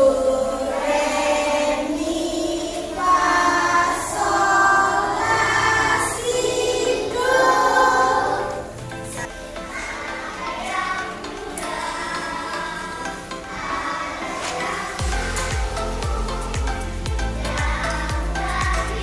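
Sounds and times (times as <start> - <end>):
children and woman singing: 0.0 - 19.0.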